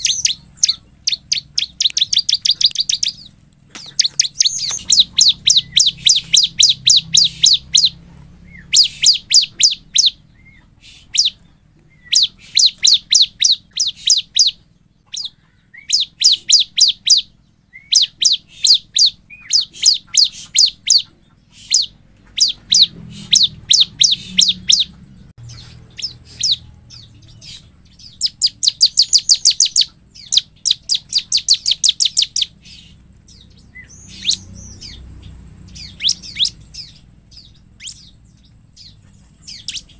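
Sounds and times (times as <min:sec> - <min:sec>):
bird singing sharp high chirps: 0:00.0 - 0:39.9.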